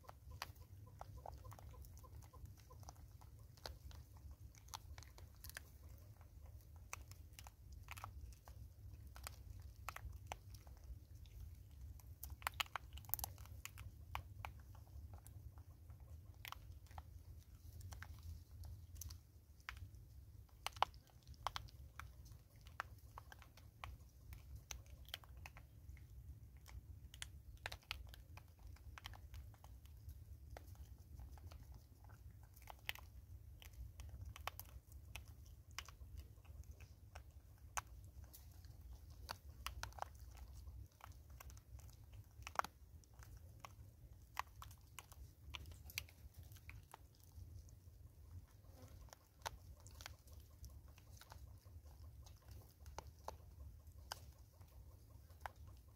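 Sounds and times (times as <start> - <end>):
faint low rumble: 0.0 - 55.9
monkeys crunching seed: 0.0 - 55.9.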